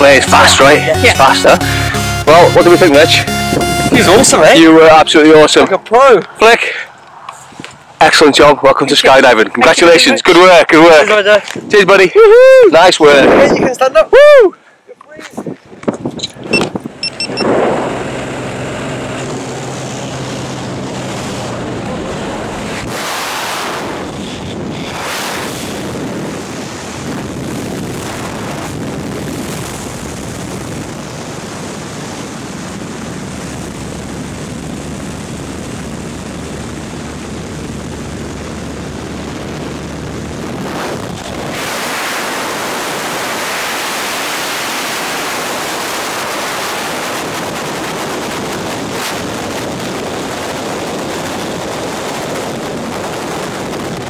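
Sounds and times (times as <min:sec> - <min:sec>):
wind rushing over microphone: 0:03.5 - 0:14.5, 0:15.1 - 0:54.0.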